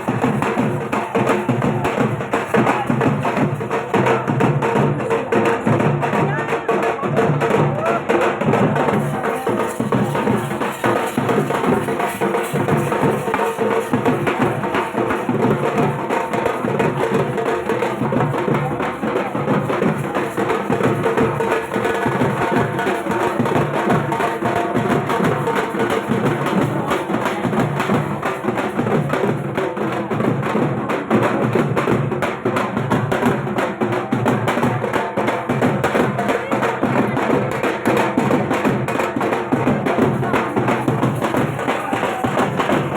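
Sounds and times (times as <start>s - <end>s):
barrel drum beaten with sticks: 0.0s - 42.9s.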